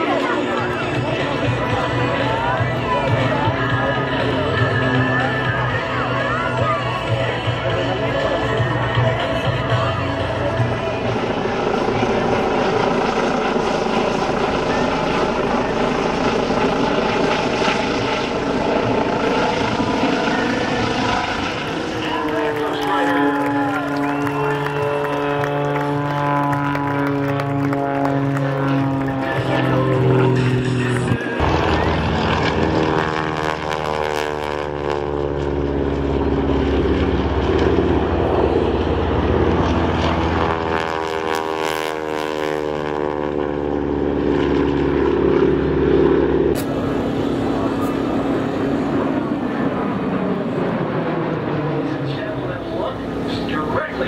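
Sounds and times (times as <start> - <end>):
helicopter flying overhead: 0.0 - 54.0
propeller airplanes passing: 0.0 - 54.0.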